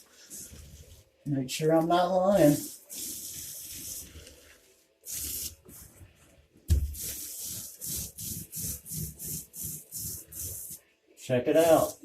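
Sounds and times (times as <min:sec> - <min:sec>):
paint roller hissing on wall: 0:00.0 - 0:12.0.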